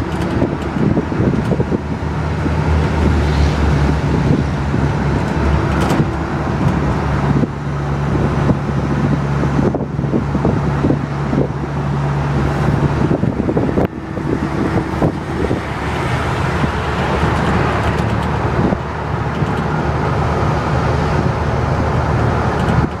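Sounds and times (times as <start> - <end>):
road traffic noise: 0.0 - 23.0
vehicle engine running: 0.0 - 23.0
wind rushing past microphone: 0.0 - 23.0.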